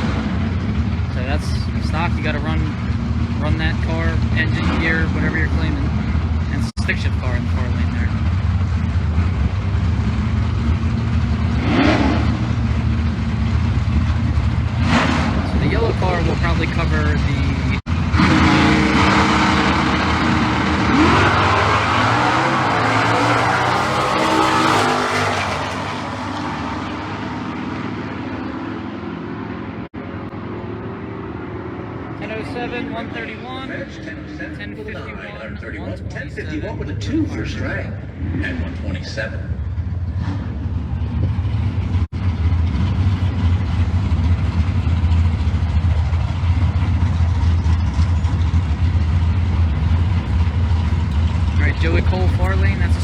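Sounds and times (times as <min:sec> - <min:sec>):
drag racing engines at full throttle: 0:00.0 - 0:53.0.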